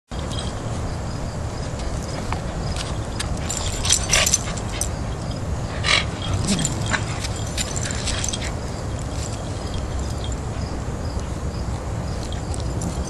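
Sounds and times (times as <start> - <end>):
low background noise: 0.1 - 13.0
dogs playing clicks and scuffles: 0.2 - 13.0.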